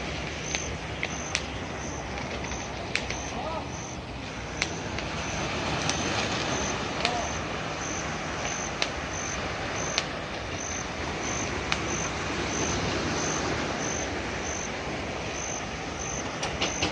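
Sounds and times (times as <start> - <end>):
insect chirping: 0.0 - 16.9
waves washing on beach: 0.0 - 16.9
sharp ticks: 0.3 - 14.7, 15.4 - 16.9.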